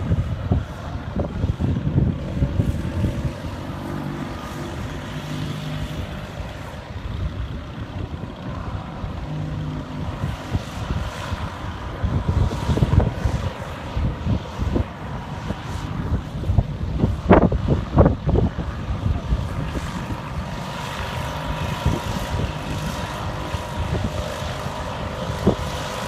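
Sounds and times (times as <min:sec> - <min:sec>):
vehicle engine running: 0:00.0 - 0:26.0
wind buffeting microphone: 0:00.0 - 0:26.0.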